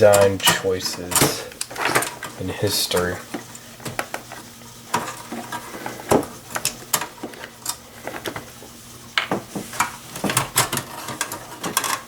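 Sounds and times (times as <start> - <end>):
computer parts clicking and clattering: 0.0 - 8.5, 9.2 - 12.0.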